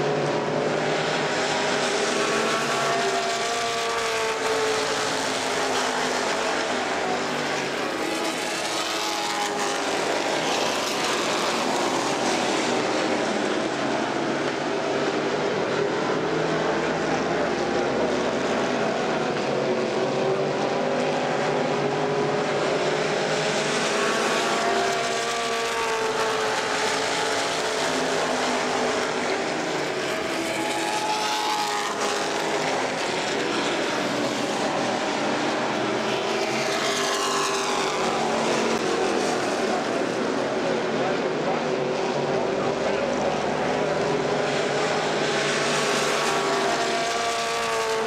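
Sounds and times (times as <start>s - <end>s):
race car engines at high revs: 0.0s - 48.0s.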